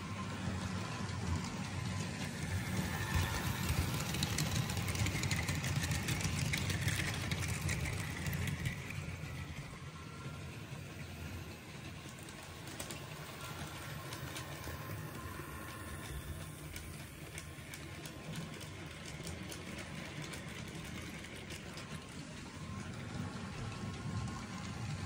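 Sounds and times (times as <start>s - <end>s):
wheels clicking over rail joints: 0.5s - 25.0s.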